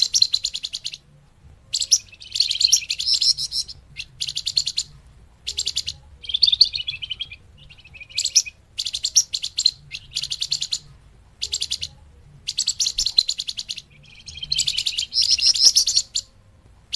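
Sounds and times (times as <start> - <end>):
bird lower chattering phrases: 0.0 - 16.3.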